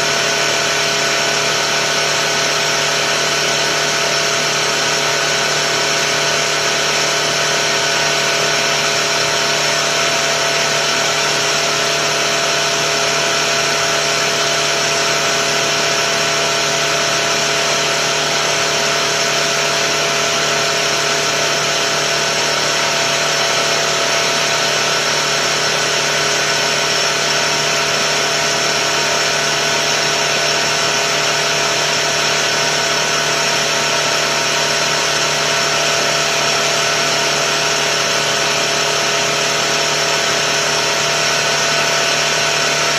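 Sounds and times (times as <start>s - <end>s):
air compressor whining: 0.0s - 42.9s.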